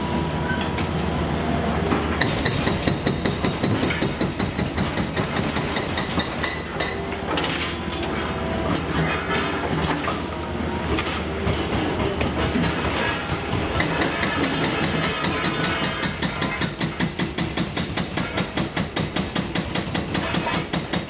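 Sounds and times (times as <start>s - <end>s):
diesel engines running: 0.0s - 18.2s
hydraulic breaker hammering concrete: 1.9s - 21.0s.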